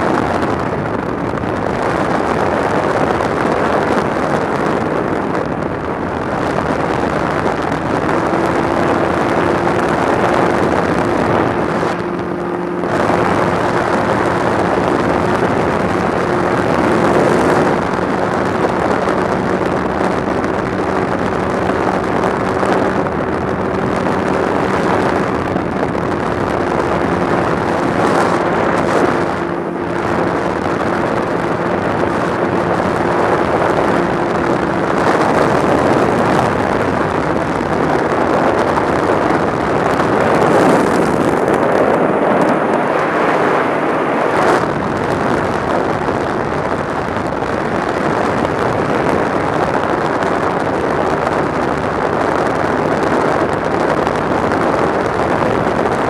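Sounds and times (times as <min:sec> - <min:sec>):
light aircraft engine and propeller drone: 0:00.0 - 0:56.0
wind rush on microphone: 0:00.0 - 0:56.0.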